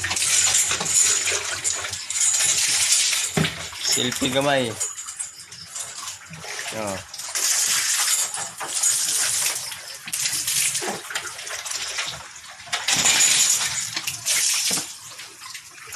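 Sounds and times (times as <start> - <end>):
water splashing: 0.0 - 15.9.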